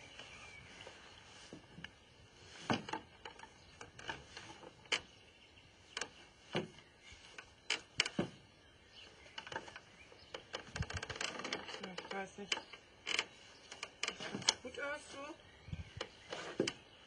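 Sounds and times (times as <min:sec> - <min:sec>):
footsteps on wooden deck: 0:00.0 - 0:05.1, 0:05.9 - 0:17.0.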